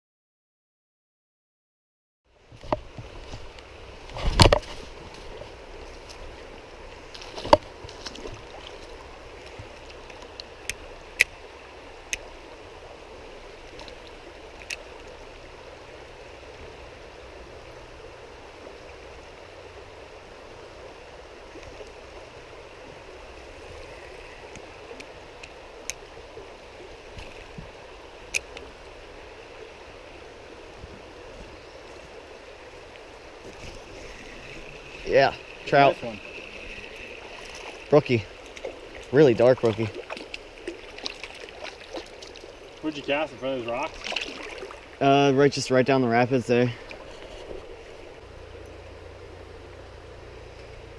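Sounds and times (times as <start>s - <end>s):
stream running over stones: 2.3s - 50.9s.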